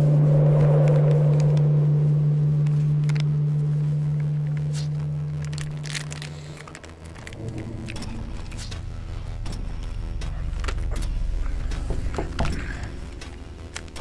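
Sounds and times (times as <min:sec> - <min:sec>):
low steady hum: 0:00.0 - 0:14.0
small clicks and crackles: 0:02.6 - 0:14.0.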